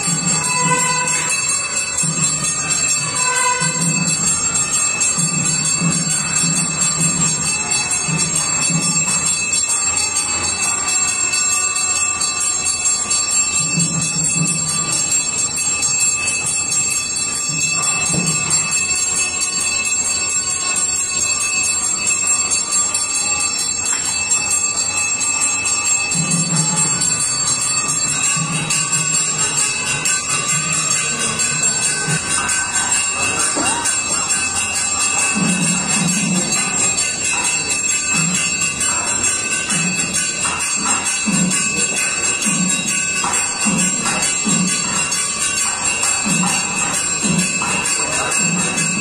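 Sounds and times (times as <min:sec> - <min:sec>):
brass hand bell ringing: 0:00.0 - 0:49.0
music: 0:00.0 - 0:49.0.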